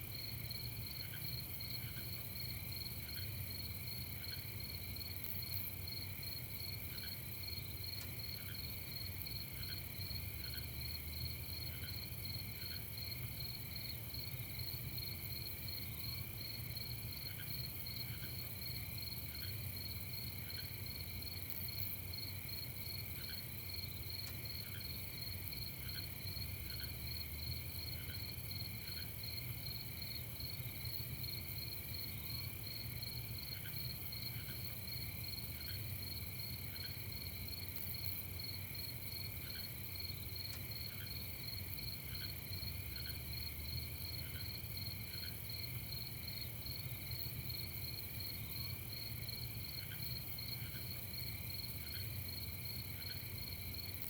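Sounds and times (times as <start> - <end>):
crickets and insects trilling: 0.2 - 54.0.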